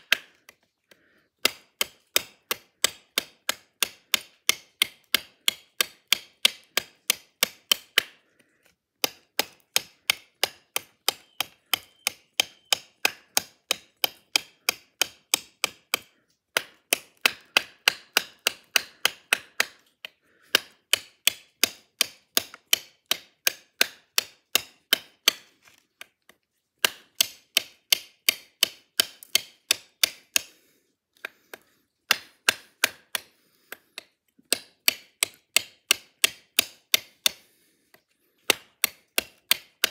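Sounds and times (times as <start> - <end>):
blade chopping into hard wood: 0.0 - 0.6, 1.4 - 8.2, 9.0 - 25.8, 26.8 - 30.6, 31.2 - 37.5, 38.4 - 39.9.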